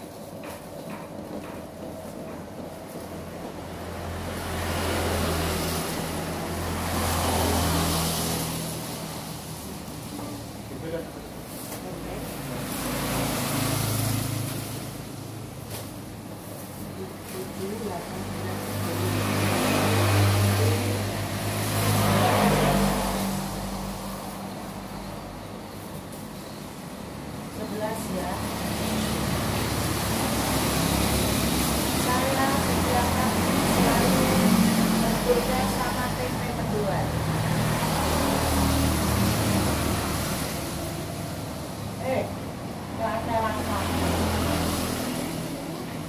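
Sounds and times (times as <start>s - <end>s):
vehicle passing on road: 0.8s - 46.0s.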